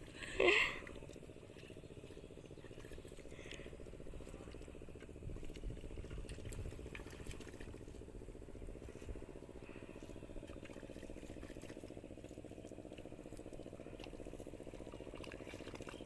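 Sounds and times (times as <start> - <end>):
distant motor humming: 0.0 - 16.0
low rumble: 0.0 - 16.0.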